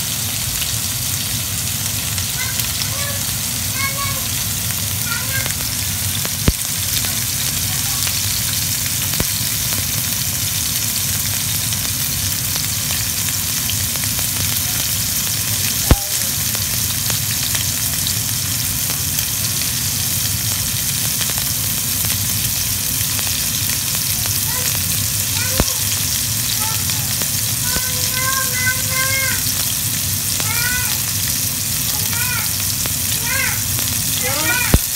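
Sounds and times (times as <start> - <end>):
steaks sizzling in a skillet: 0.0 - 34.9.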